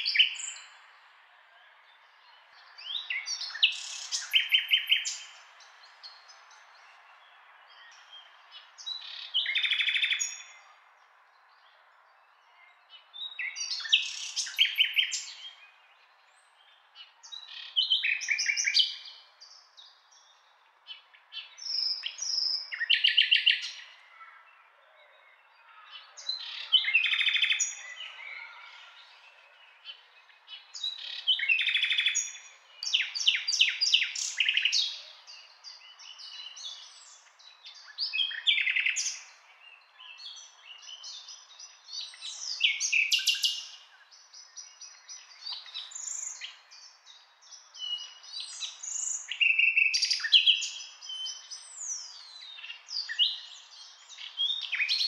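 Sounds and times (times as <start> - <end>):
nightingale singing: 0.0 - 0.8, 2.3 - 10.8, 12.6 - 23.9, 24.9 - 55.0.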